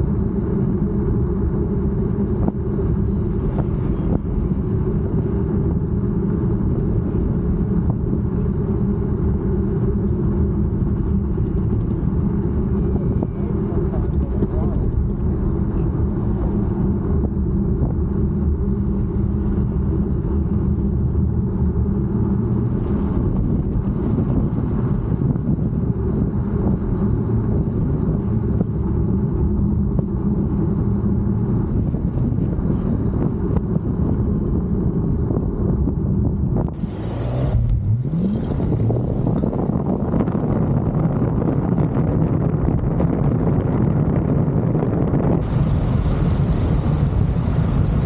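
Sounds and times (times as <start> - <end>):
moving vehicle rumble: 0.0 - 48.0
wind noise on microphone: 0.0 - 48.0.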